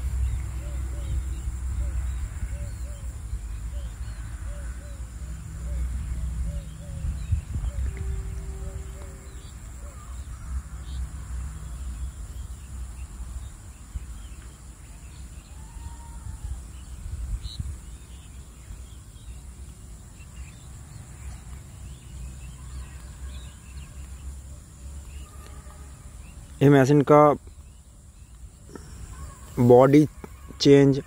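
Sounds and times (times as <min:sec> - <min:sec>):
bird chirps: 0:00.0 - 0:31.0.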